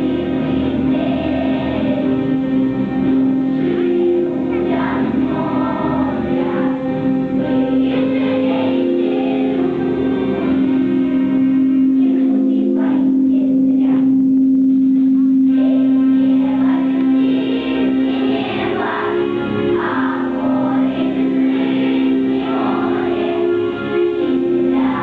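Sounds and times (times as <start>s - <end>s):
children's choir singing: 0.0s - 25.0s
musical accompaniment: 0.0s - 25.0s.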